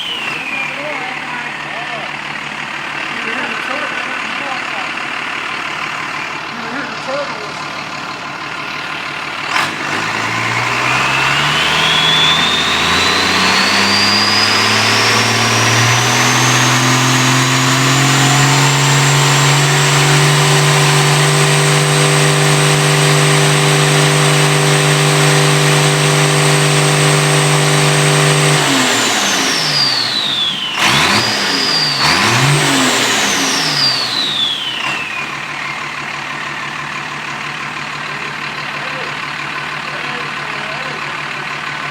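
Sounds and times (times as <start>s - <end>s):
turbo whine: 0.0s - 38.2s
diesel engine revving: 0.0s - 41.9s.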